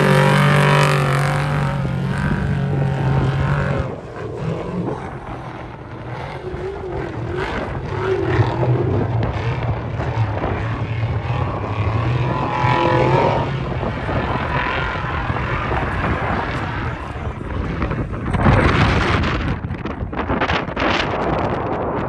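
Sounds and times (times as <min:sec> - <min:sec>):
motor vehicle engine running: 0:00.0 - 0:22.0
wind buffeting microphone: 0:00.0 - 0:22.0.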